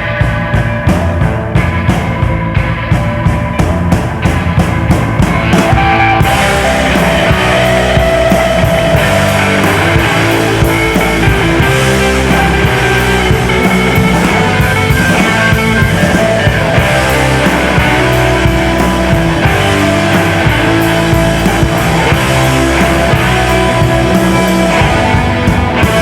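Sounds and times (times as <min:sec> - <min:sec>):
drum kit beat: 0:00.0 - 0:26.0
rock band playing: 0:00.0 - 0:26.0.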